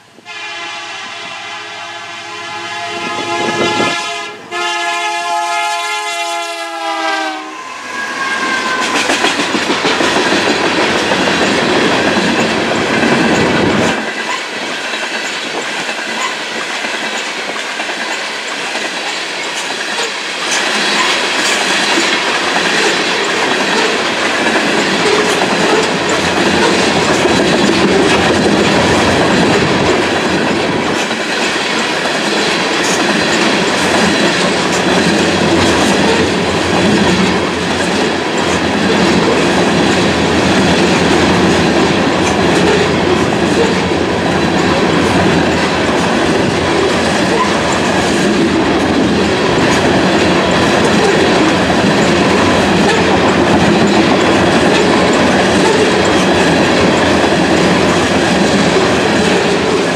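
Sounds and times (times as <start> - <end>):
train wheels rumbling on rail: 0.0 - 59.9
wheels clicking over rail joints: 8.8 - 59.9.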